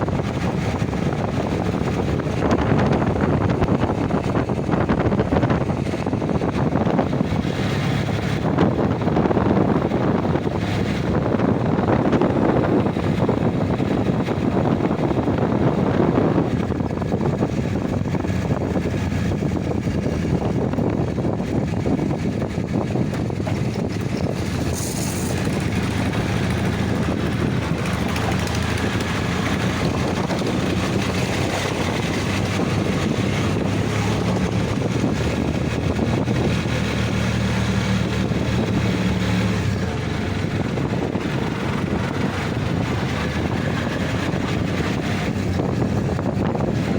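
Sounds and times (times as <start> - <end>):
engine running: 0.0 - 46.9
wind rushing over microphone: 0.0 - 46.9.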